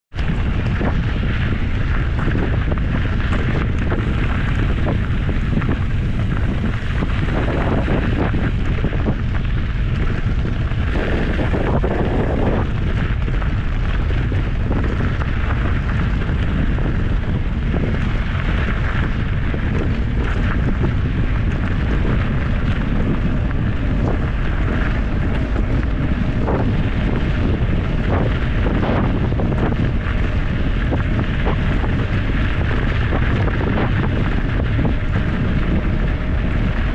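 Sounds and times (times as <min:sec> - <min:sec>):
tyres crunching on gravel: 0:00.1 - 0:36.9
wind buffeting microphone: 0:00.1 - 0:36.9.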